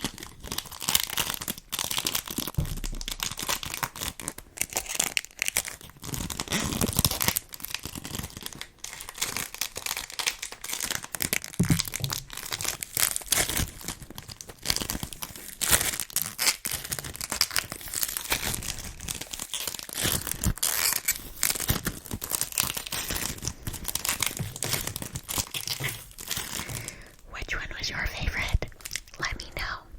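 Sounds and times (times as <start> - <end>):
sticky foam crackling and peeling: 0.0 - 27.2.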